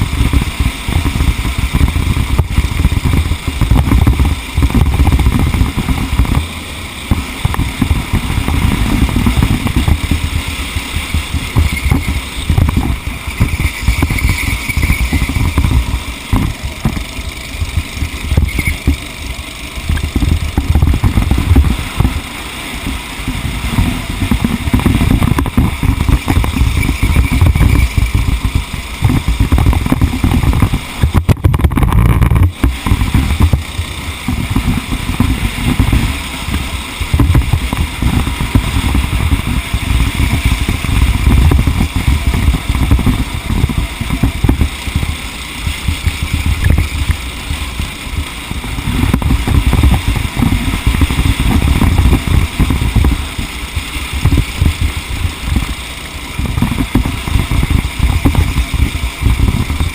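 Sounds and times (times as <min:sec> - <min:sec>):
vehicle over rough ground: 0:00.0 - 0:59.9
wind buffeting microphone: 0:00.0 - 0:59.9.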